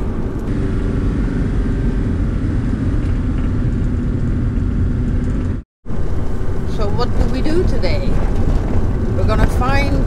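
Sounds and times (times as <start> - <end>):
engine drone: 0.0 - 10.0
road rumble: 0.0 - 10.0.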